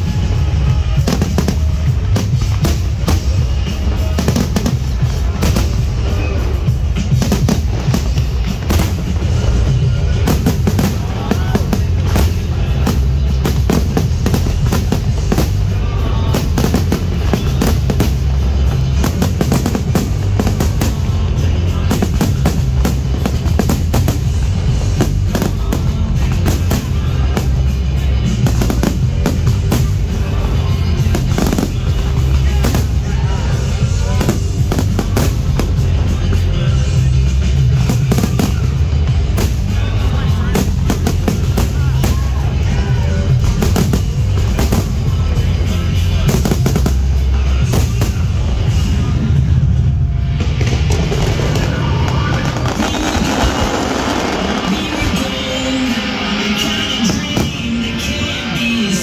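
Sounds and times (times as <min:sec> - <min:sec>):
fireworks bursting and crackling: 0:00.0 - 0:59.0
loud music: 0:00.0 - 0:59.0.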